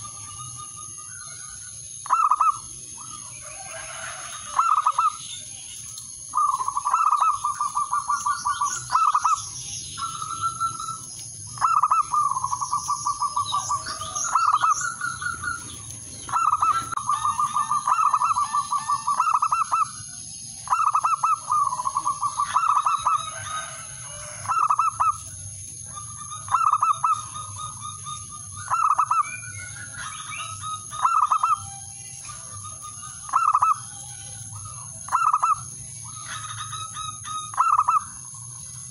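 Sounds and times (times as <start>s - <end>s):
steady high-pitched hiss: 0.0s - 38.9s
dove cooing: 1.3s - 5.2s, 6.3s - 38.2s.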